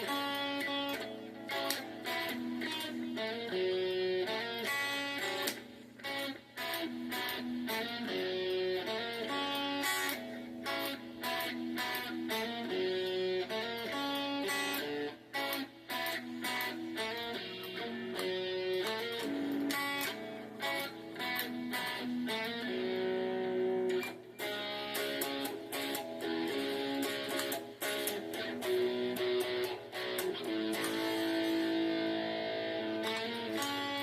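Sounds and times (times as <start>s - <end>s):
solo guitar strummed softly: 0.0s - 34.0s.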